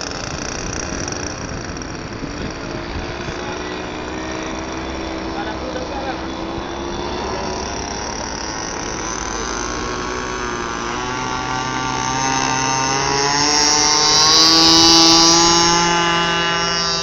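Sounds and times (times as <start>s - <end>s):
model airplane engine running: 0.0s - 17.0s.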